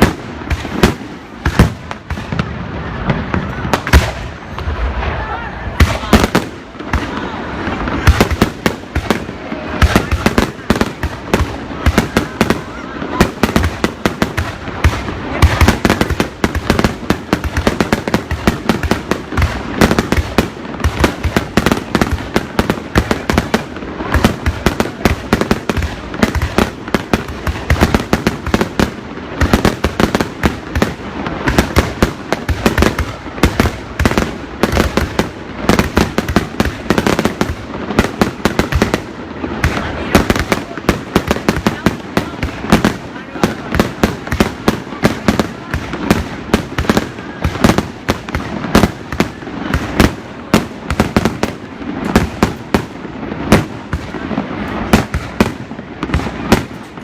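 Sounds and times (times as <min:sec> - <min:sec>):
fireworks banging: 0:00.0 - 0:57.0.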